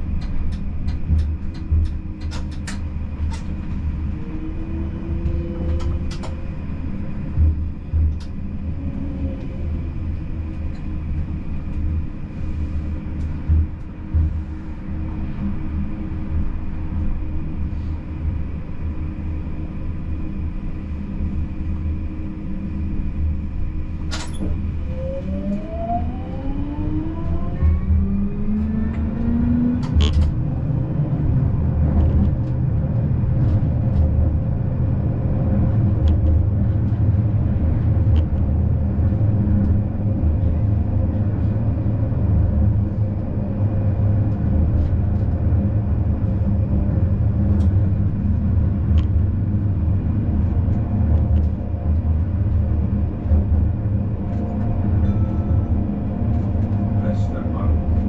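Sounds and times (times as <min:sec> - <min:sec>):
tram rumbling: 0:00.0 - 0:58.0.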